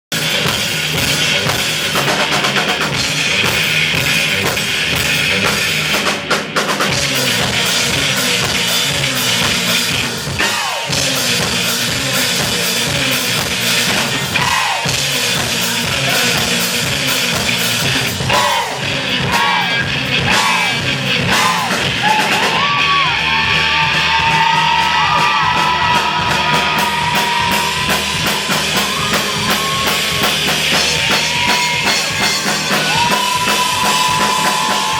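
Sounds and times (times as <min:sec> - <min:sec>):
drum kit beat: 0:00.1 - 0:34.9
live rock band playing: 0:00.1 - 0:34.9.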